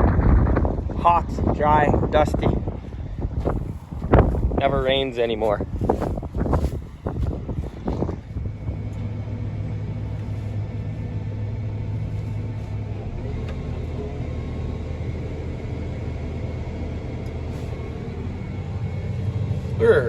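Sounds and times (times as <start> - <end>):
diesel engine running: 0.0 - 20.0
steady whine: 0.0 - 20.0.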